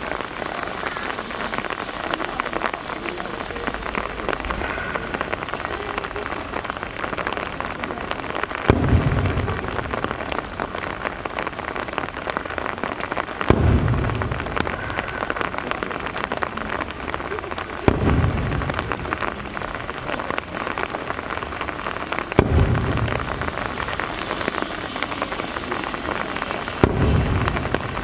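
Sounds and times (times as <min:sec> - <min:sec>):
firework shells bursting: 0:00.0 - 0:28.0
steady rain falling: 0:00.0 - 0:28.0.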